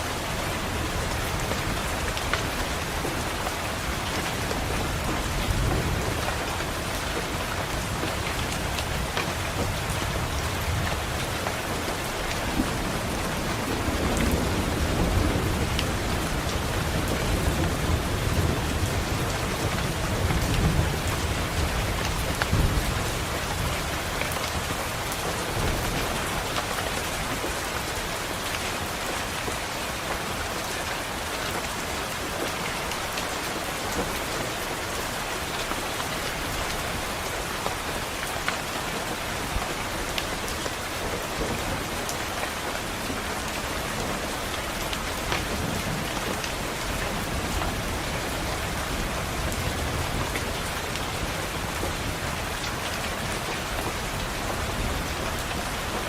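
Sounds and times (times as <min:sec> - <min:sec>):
rain pattering on window: 0:00.0 - 0:56.0.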